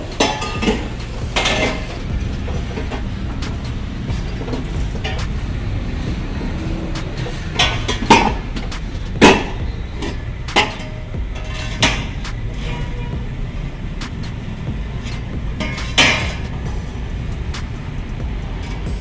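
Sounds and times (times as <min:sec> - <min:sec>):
exhaust pipe clanking on metal: 0:00.0 - 0:19.0
steady low rumble: 0:00.0 - 0:19.0.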